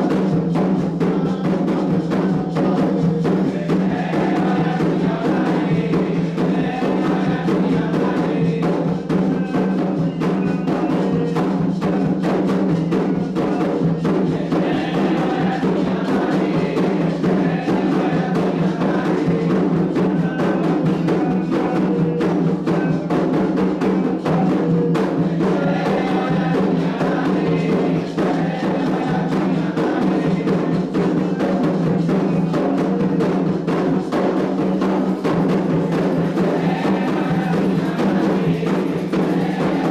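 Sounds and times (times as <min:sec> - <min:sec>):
hand drums beating: 0:00.0 - 0:39.9
struck bell percussion: 0:00.0 - 0:39.9
voices chanting: 0:00.1 - 0:12.4, 0:13.3 - 0:39.9.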